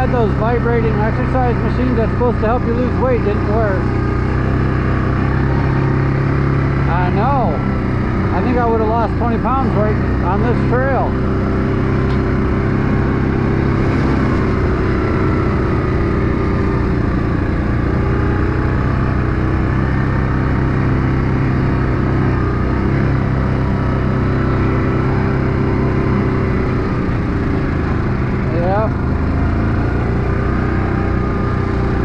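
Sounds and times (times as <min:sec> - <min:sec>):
atv engine running: 0:00.0 - 0:32.0.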